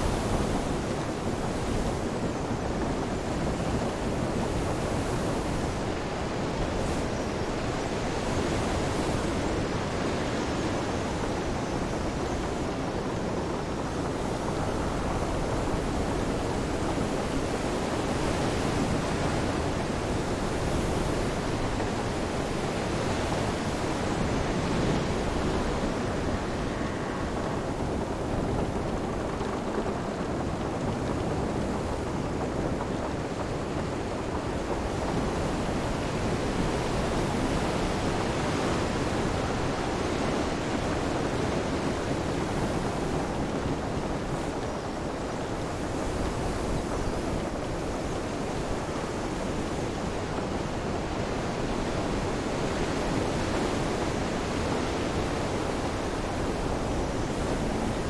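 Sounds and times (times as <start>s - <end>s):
rain: 0.0s - 58.0s
steady wind: 0.0s - 58.0s
surf washing in: 0.0s - 58.0s.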